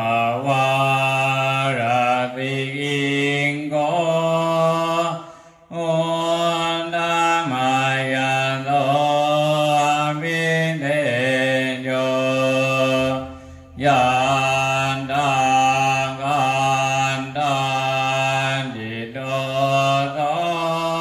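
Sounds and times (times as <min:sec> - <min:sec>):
low voice chanting: 0:00.0 - 0:21.0.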